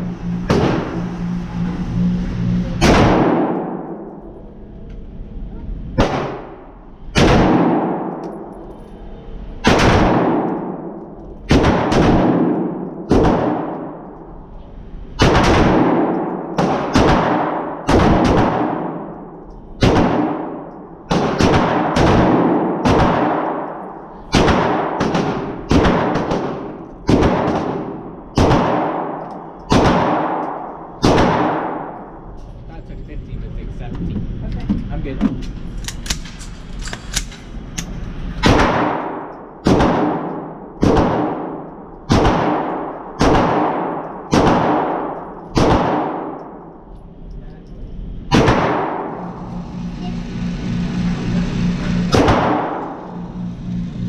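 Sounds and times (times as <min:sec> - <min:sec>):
rifle shots echoing indoors: 0:00.0 - 0:01.3, 0:02.8 - 0:05.2, 0:05.9 - 0:32.3, 0:35.8 - 0:47.2, 0:48.0 - 0:49.6, 0:52.0 - 0:53.4.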